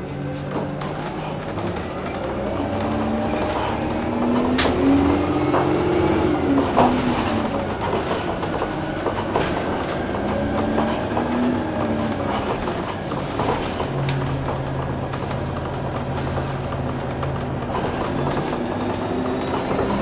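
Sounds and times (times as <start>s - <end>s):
bus drive whine: 0.0s - 20.0s
bus rumble: 0.0s - 20.0s
cabin rattles and clicks: 0.2s - 20.0s.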